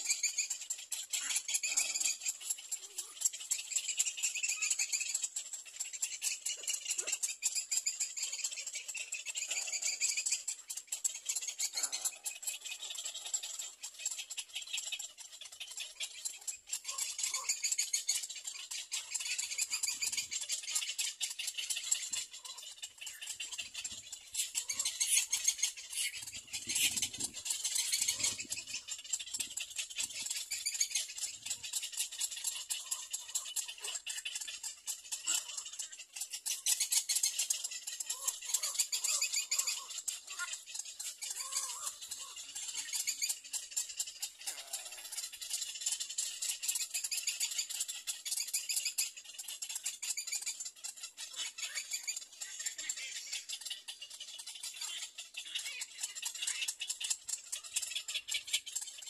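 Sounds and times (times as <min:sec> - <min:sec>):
high-pitched rattling animal chorus: 0:00.0 - 0:59.0.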